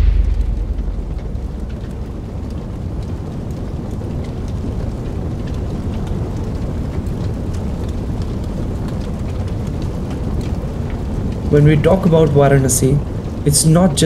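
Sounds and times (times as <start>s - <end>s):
fire crackles and pops: 0.0s - 14.0s
wood fire rumbling: 0.0s - 14.0s.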